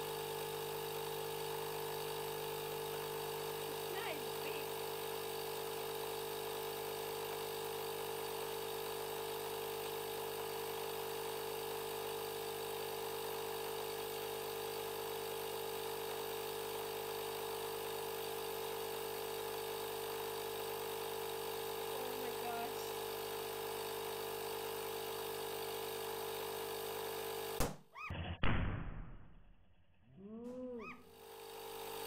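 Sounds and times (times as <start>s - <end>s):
air compressor humming: 0.0s - 27.7s, 30.5s - 32.0s.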